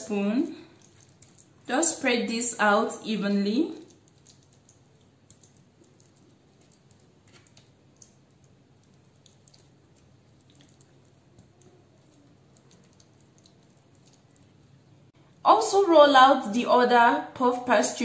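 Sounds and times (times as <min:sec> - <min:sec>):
soft squelches of creamy filling: 0:00.2 - 0:15.4.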